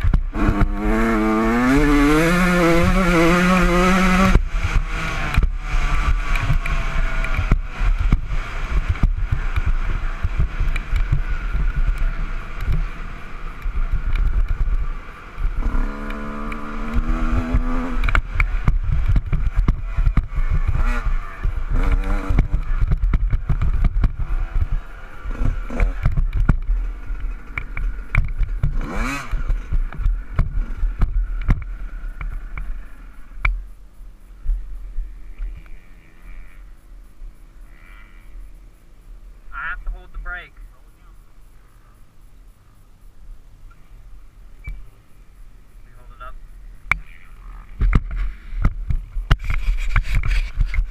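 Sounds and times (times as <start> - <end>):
dirt bike engine running: 0.0 - 38.0, 43.7 - 50.9.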